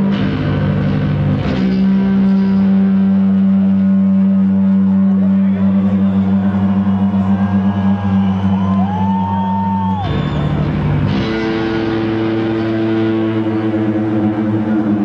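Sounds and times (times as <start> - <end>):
electric guitar sustained notes: 0.0 - 15.0.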